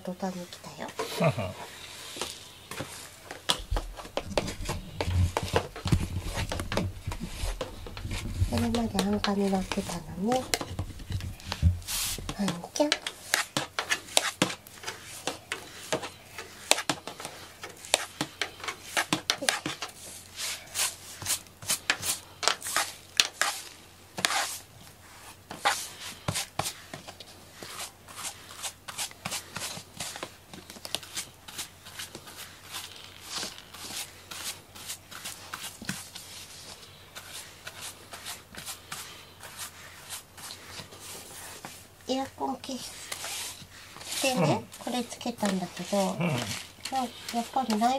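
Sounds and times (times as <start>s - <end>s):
brush stroking cat fur: 0.2s - 47.9s.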